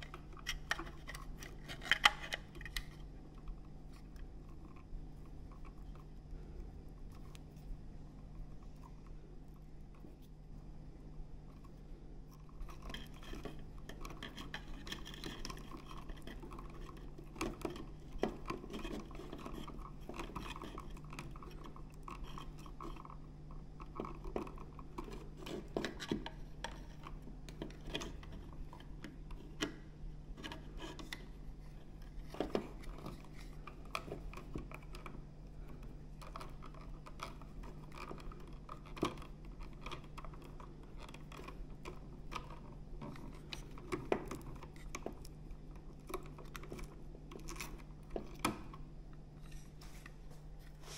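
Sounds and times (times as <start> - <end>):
clicks and rustles of wires: 0.0 - 50.9
steady low hum: 0.0 - 50.9.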